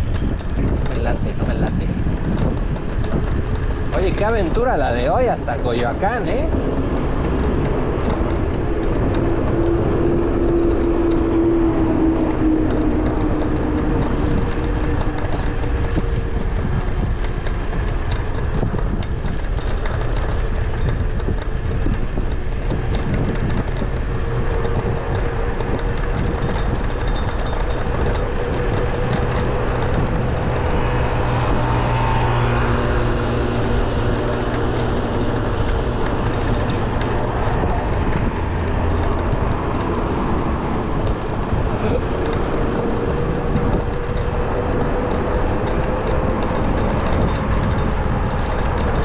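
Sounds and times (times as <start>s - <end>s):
passing vehicles: 0.0s - 49.0s
traffic and road noise: 0.0s - 49.0s
wind rushing over microphone: 0.0s - 49.0s.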